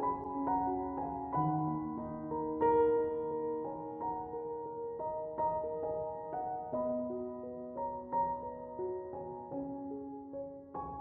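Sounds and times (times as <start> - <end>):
slow keyboard melody: 0.0 - 11.0.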